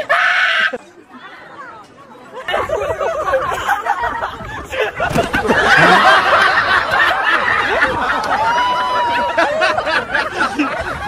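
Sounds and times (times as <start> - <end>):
crowd laughing and chattering: 0.0 - 11.0.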